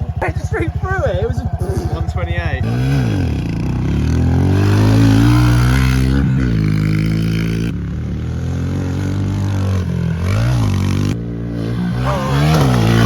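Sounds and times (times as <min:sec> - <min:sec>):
mini bike engine revving: 0:00.0 - 0:13.0.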